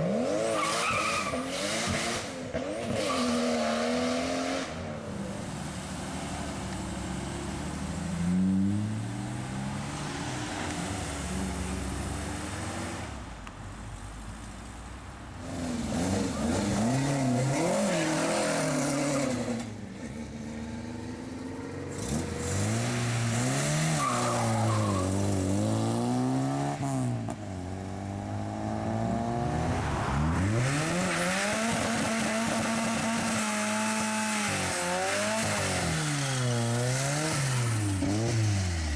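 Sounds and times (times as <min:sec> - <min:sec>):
car engines revving and accelerating: 0:00.0 - 0:38.9.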